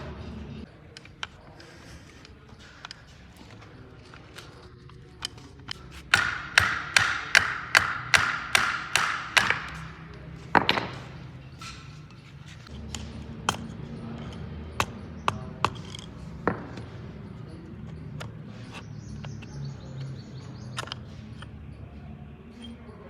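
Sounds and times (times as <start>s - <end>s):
hand tools tapping on metal: 0.9s - 23.0s.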